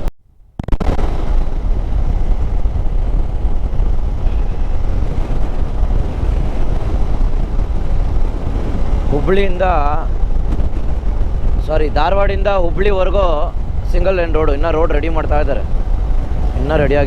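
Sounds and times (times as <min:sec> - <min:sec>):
motorcycle engine and road noise: 0:00.0 - 0:17.0
wind rush: 0:00.0 - 0:17.0.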